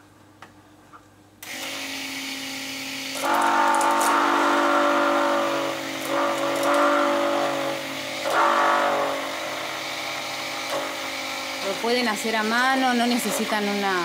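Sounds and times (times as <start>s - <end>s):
stick blender motor whining: 1.4s - 14.0s.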